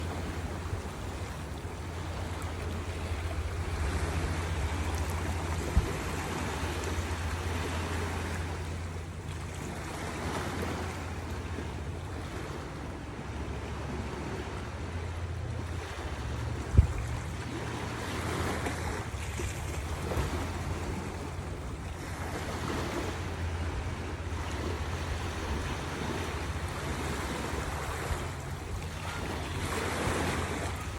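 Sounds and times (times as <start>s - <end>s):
sea waves breaking: 0.0s - 30.9s
wind rumble on microphone: 0.0s - 30.9s.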